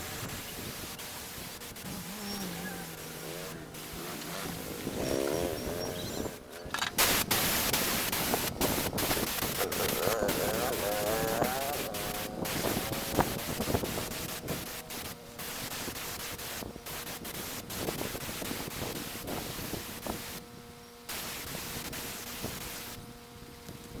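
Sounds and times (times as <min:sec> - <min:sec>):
air spray gun hissing: 0:00.0 - 0:20.5, 0:21.1 - 0:23.0.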